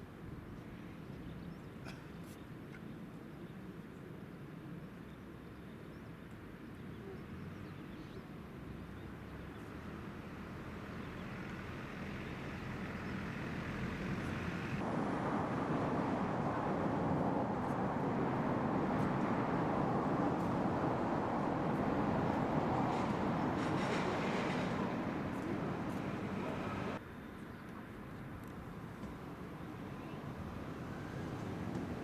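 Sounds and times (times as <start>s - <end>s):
motor traffic rumble: 6.4s - 32.0s.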